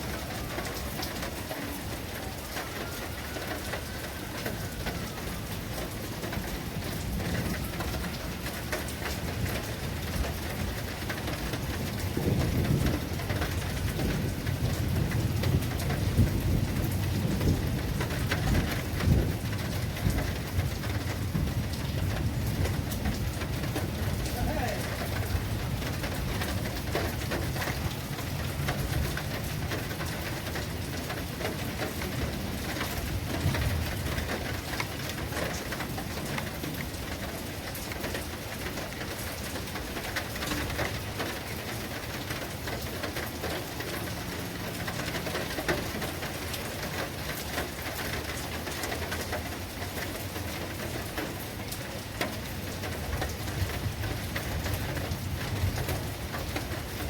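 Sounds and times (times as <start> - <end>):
storm rain falling: 0.0 - 57.0.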